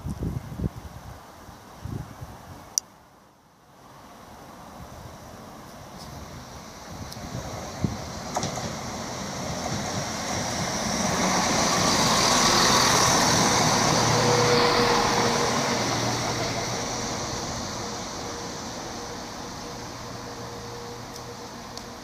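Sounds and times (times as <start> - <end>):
diesel train passing: 3.8 - 22.0.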